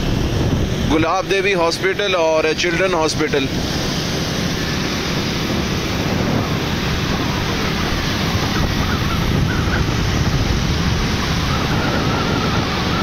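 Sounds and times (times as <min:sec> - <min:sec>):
traffic and tyres on wet road: 0:00.0 - 0:13.0
wind buffeting microphone: 0:00.0 - 0:13.0.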